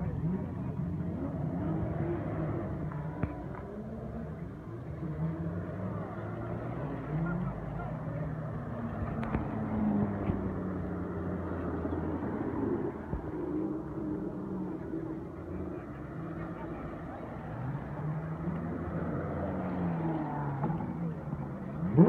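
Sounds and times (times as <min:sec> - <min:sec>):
car engines rolling slowly: 0:00.0 - 0:22.0.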